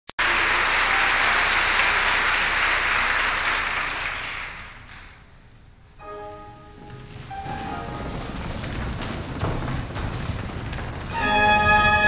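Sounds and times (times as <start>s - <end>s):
audience applause: 0.2s - 5.4s, 7.2s - 12.0s.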